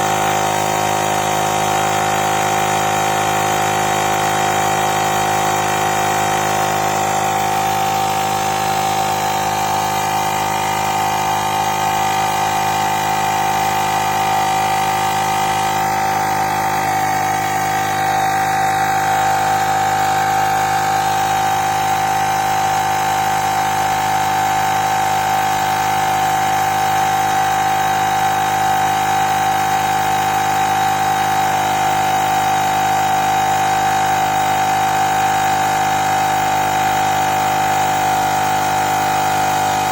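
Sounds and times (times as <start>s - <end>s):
tyre inflator compressor pumping: 0.0s - 39.9s.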